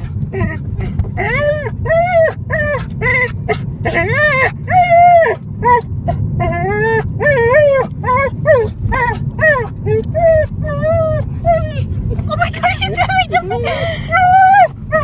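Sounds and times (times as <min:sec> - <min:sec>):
dog whining and yelping: 0:00.0 - 0:15.0
low steady rumble: 0:00.0 - 0:15.0.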